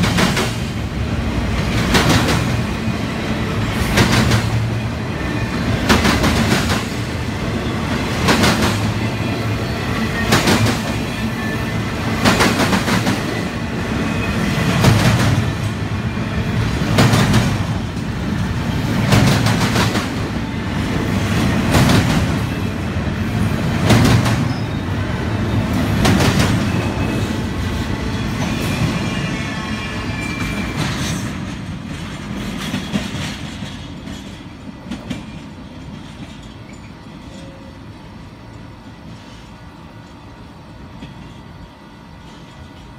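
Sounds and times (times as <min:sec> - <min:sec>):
freight train rolling past: 0:00.0 - 0:42.9.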